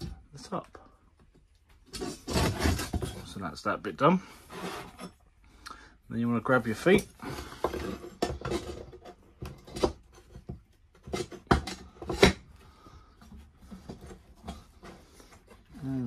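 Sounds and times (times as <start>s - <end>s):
rubbing and scraping: 1.6s - 5.4s, 6.2s - 16.0s.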